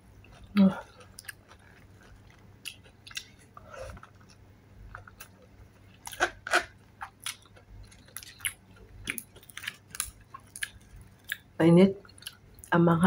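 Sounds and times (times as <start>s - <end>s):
chewing crunchy food: 0.2s - 12.8s.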